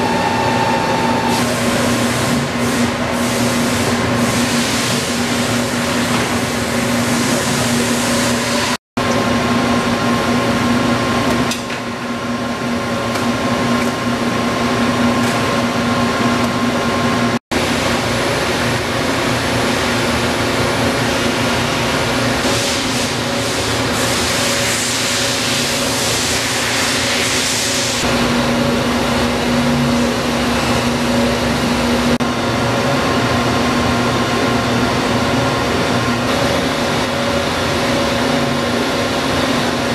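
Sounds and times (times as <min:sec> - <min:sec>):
machine motor hum with whine: 0:00.0 - 0:39.9.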